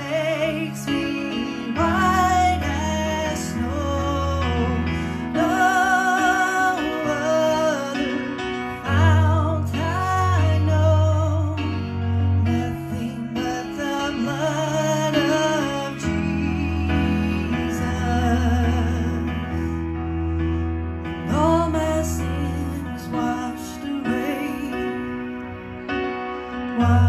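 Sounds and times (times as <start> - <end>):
electronic keyboard chords: 0.0 - 27.0.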